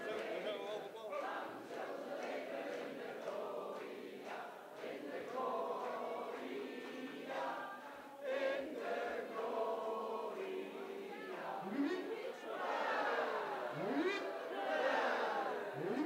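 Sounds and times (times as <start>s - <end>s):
group of people singing in unison: 0.0s - 16.0s.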